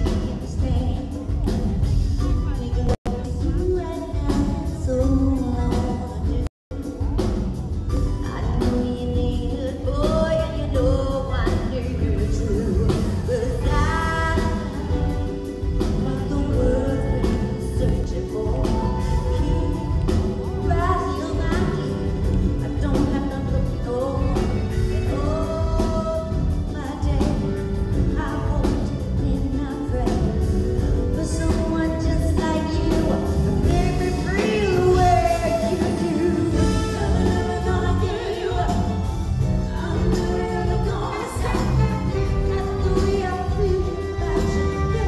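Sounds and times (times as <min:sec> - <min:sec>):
drums: 0:00.0 - 0:45.0
saxophone: 0:00.0 - 0:45.0
woman singing soul song: 0:00.0 - 0:45.0.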